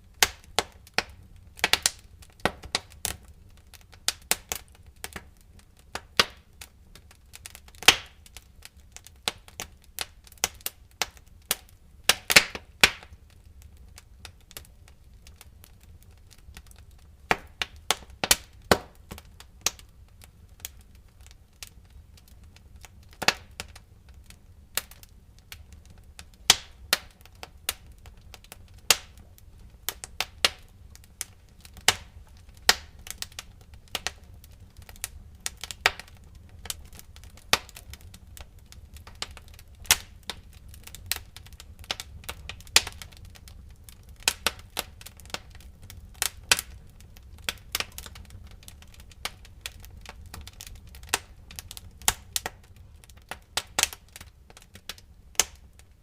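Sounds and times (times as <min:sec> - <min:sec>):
low rumble of burning logs: 0:00.0 - 0:56.0
wood fire crackling and popping: 0:00.0 - 0:56.0.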